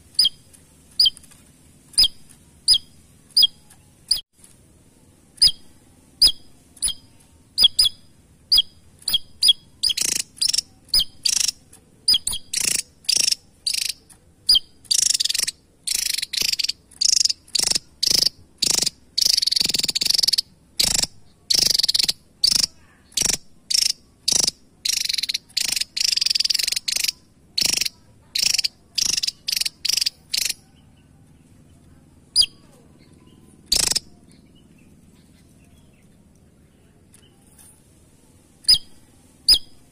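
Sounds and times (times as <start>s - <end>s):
bird harsh rasping calls: 0.0s - 1.3s, 1.9s - 4.2s, 5.4s - 31.1s, 32.2s - 36.1s, 38.6s - 39.9s
bird sharp high chips: 0.0s - 4.2s, 5.3s - 30.8s, 32.4s - 34.4s, 38.6s - 39.9s.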